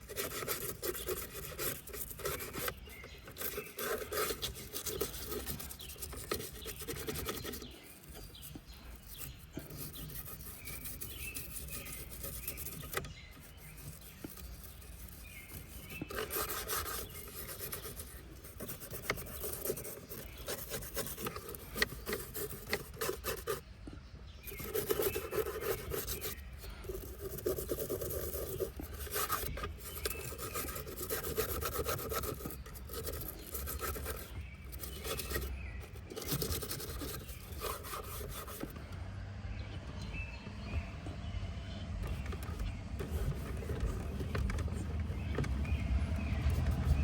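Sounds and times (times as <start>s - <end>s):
brush scrubbing surfaces: 0.0s - 23.6s, 24.4s - 38.8s, 42.0s - 47.0s.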